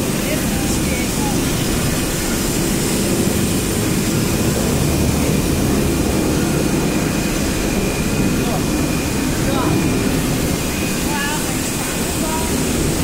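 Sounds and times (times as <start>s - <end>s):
hot-air welding machine roar: 0.0s - 13.0s.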